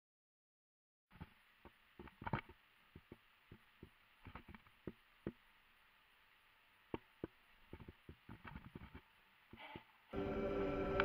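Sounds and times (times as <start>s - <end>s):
light hiss: 1.1s - 10.2s.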